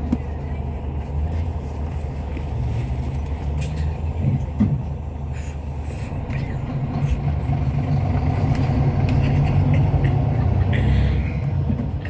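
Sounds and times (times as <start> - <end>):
coach engine and road drone: 0.0 - 12.0.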